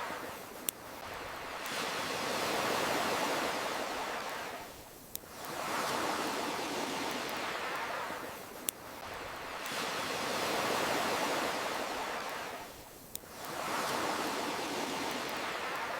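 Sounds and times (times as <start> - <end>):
ocean surf: 0.0 - 15.9.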